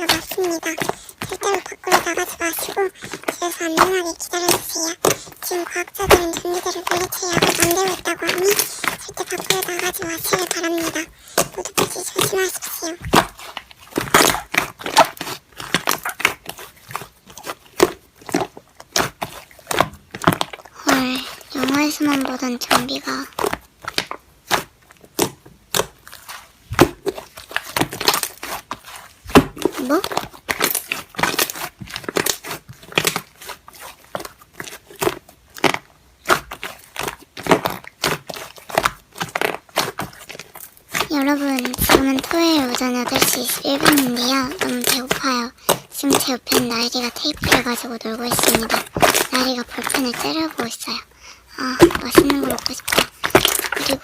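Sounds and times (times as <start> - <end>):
slime squishing with clicks: 0.0 - 54.0.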